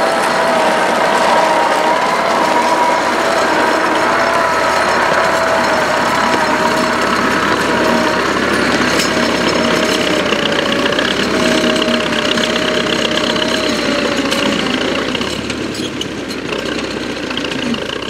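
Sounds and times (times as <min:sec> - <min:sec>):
thin whine: 0:00.0 - 0:15.3
tractor diesel engine running: 0:00.0 - 0:18.0.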